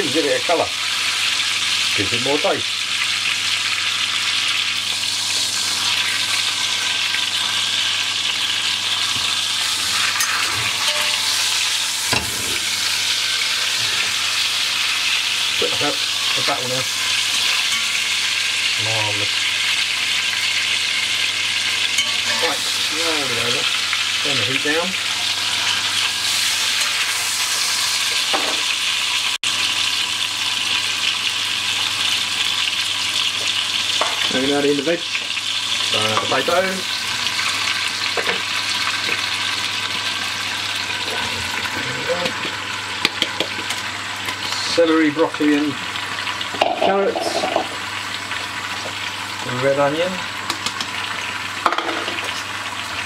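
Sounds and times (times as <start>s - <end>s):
meat sizzling: 0.0s - 53.0s.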